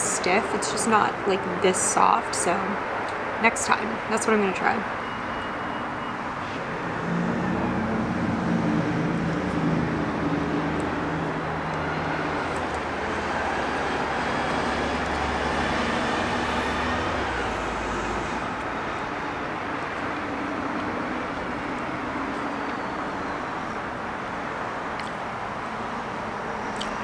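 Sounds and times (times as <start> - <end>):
road traffic noise: 0.0 - 27.0
vehicle engine and tyres passing: 4.6 - 27.0.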